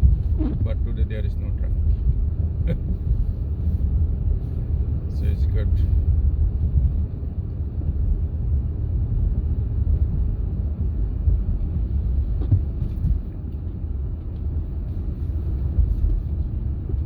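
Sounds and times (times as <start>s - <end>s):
road and engine rumble in car cabin: 0.0s - 17.0s.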